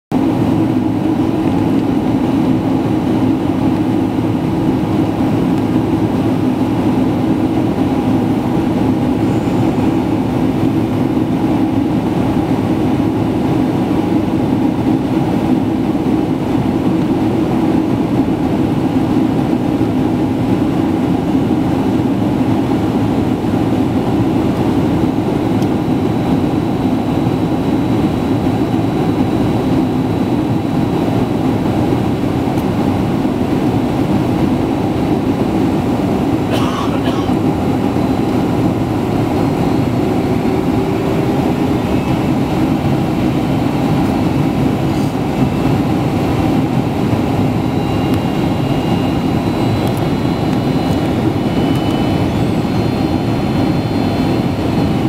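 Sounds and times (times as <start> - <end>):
airliner cabin engine rumble: 0.1 - 55.0.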